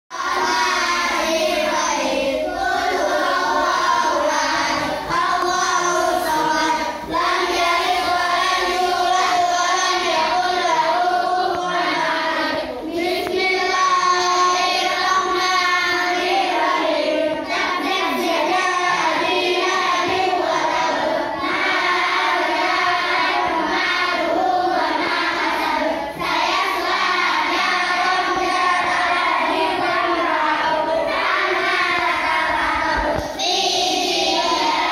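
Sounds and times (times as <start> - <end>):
children chanting in unison: 0.1 - 34.9.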